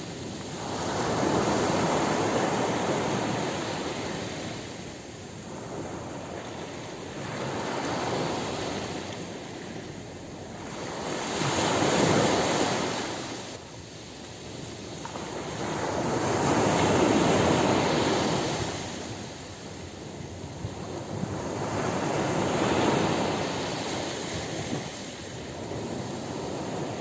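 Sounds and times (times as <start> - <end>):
ocean waves breaking on beach: 0.0 - 27.0.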